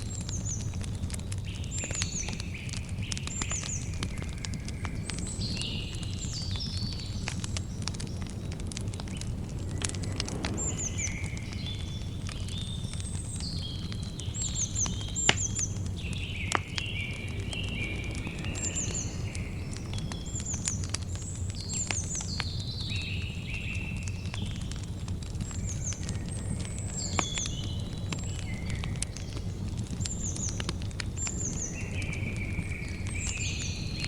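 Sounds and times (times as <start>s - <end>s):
birds singing: 0.0s - 24.7s, 25.4s - 34.0s
campfire crackling: 0.0s - 34.0s.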